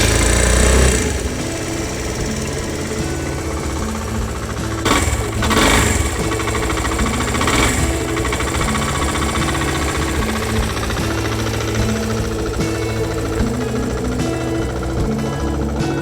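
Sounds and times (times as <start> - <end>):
motorcycle engine throttle blips: 0.0 - 16.0.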